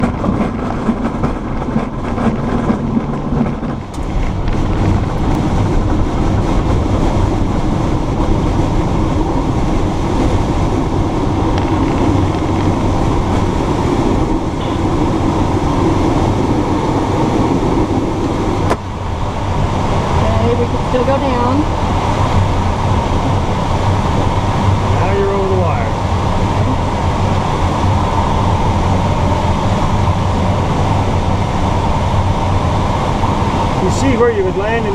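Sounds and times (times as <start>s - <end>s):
rumble and rush of air: 0.0s - 34.9s.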